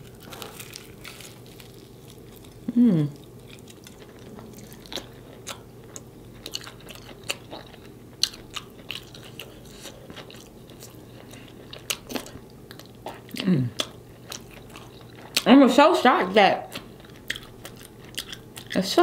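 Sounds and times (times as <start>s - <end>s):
fried chicken chewing crunches: 0.0s - 15.5s, 16.7s - 18.8s.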